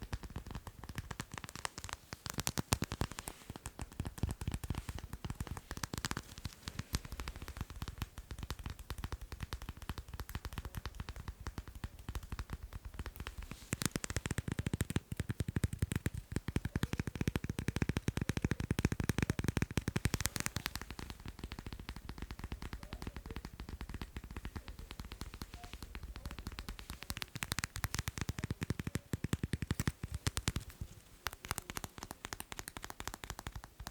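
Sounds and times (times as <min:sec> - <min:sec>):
rapid light tapping: 0:00.0 - 0:33.9.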